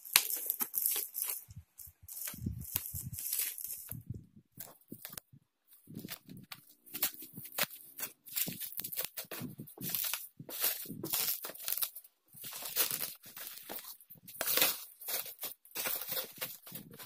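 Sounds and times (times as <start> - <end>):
bubble wrap crinkling and tearing: 0.0 - 17.0
tape peeling: 0.0 - 17.0.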